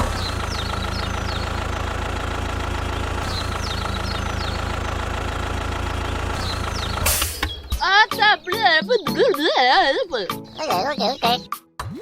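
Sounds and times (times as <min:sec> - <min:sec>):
tractor engine idling: 0:00.0 - 0:11.4.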